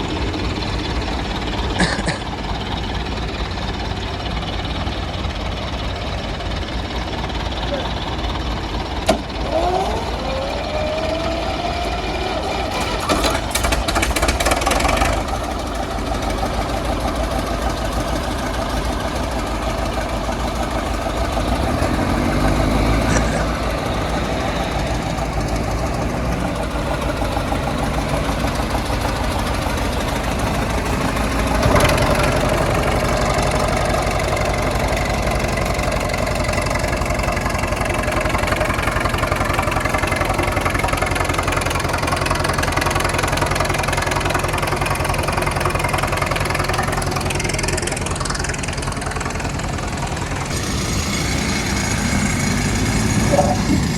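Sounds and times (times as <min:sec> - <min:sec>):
heavy machinery engine revving: 0:00.0 - 0:53.9.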